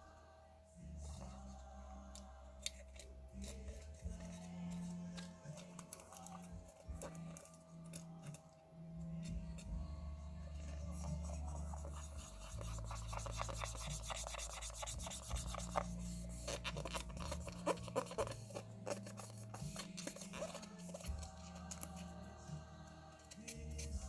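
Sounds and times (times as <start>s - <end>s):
small parts rubbing and scratching: 1.4s - 8.5s, 10.6s - 24.0s.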